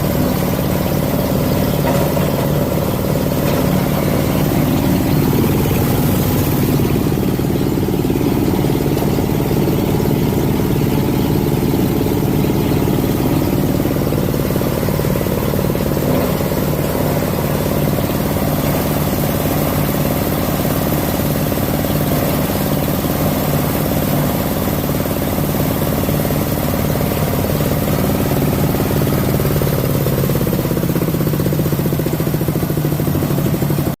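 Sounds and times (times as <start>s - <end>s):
grinding machine droning: 0.0s - 34.0s.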